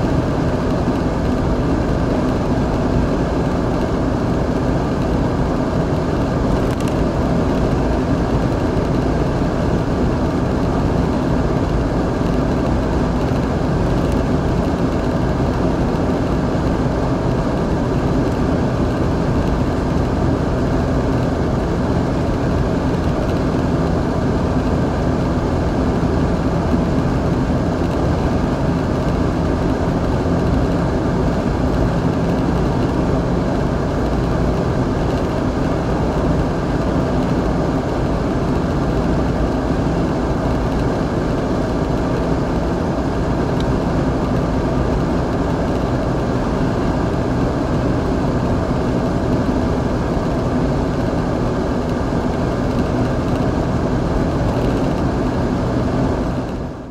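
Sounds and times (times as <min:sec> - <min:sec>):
car cabin road drone: 0:00.0 - 0:56.9.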